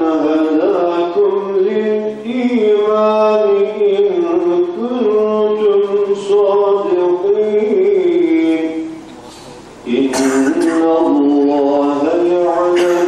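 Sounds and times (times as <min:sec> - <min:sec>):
man chanting a melodic recitation: 0:00.0 - 0:13.0.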